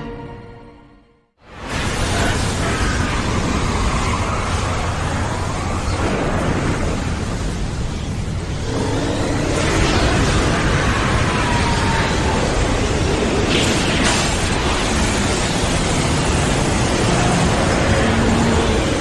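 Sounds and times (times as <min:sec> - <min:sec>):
strong gusting wind: 0:01.4 - 0:19.0.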